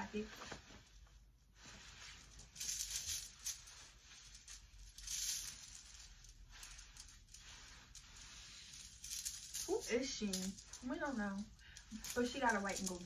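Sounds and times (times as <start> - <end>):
jacket fabric rustling: 0.0 - 13.0.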